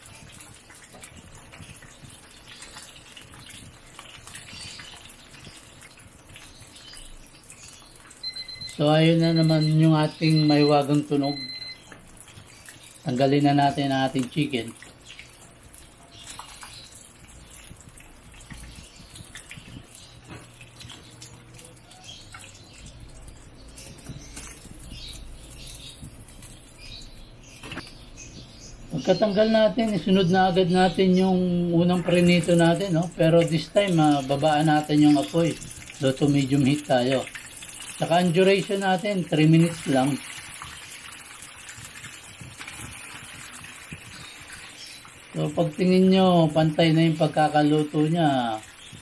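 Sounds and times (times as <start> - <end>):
chicken deep-frying in oil: 0.0 - 49.0.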